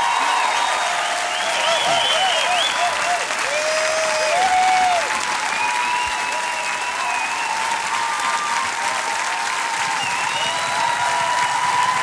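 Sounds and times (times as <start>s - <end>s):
audience applauding and cheering: 0.0s - 12.0s.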